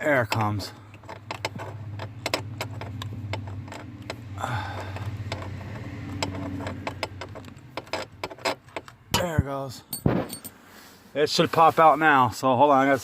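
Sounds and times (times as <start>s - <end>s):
metal and plastic parts rattling: 0.0s - 10.6s.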